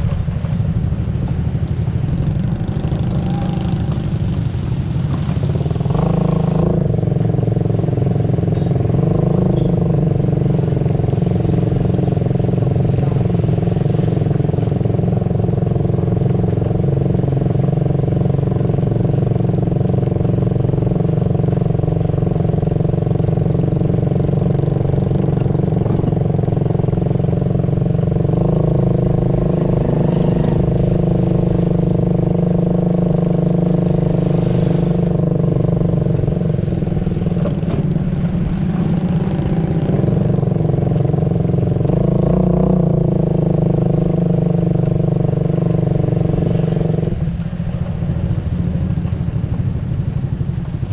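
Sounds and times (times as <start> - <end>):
vehicle engine running steadily: 0.0 - 50.9.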